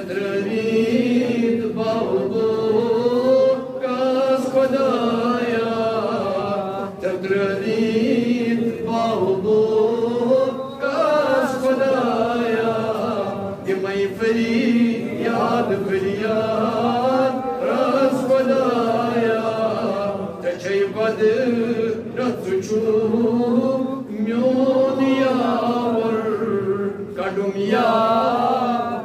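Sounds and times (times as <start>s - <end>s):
man chanting melodically: 0.0s - 29.0s.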